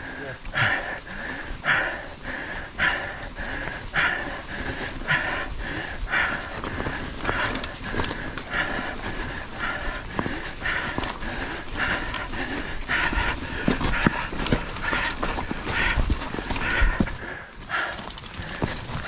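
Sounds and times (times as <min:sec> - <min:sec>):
person breathing hard: 0:00.0 - 0:19.0.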